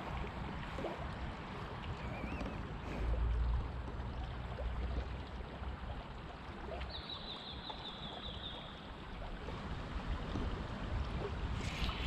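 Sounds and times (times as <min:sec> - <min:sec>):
river water running and lapping: 0:00.0 - 0:12.0.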